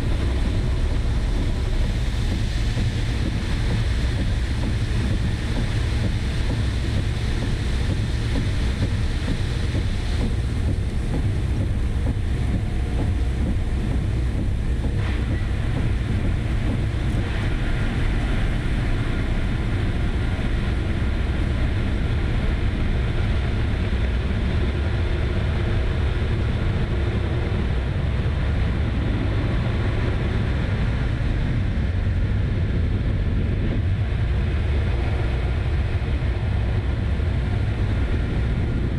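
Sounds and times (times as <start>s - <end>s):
vehicle rumbling under way: 0.0s - 38.9s
wind noise on microphone: 0.0s - 38.9s.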